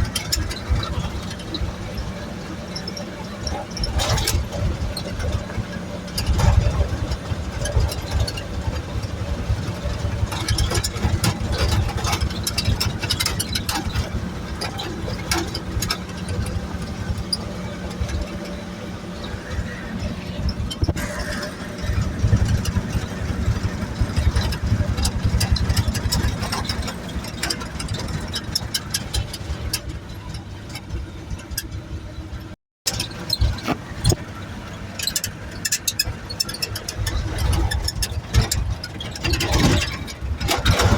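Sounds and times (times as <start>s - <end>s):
sharp rattles and knocks: 0.0s - 40.9s
truck engine running: 0.0s - 40.9s.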